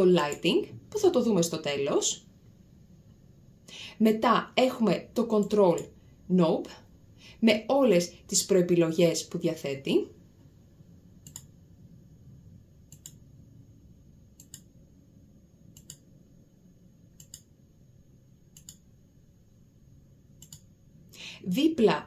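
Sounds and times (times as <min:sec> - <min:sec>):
low room noise: 0:00.0 - 0:22.0.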